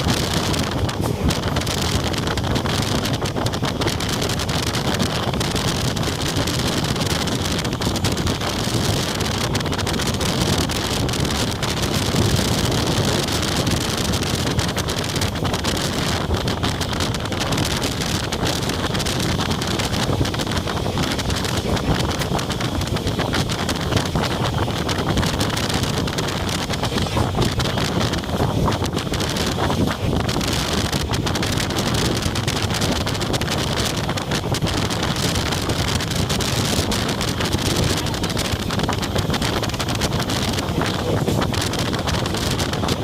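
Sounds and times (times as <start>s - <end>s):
train running noise: 0.0s - 43.0s
wind buffeting microphone: 0.0s - 43.0s.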